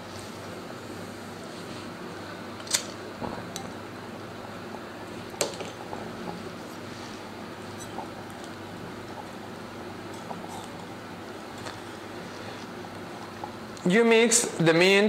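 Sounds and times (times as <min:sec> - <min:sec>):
bar room hum: 0:00.0 - 0:15.0.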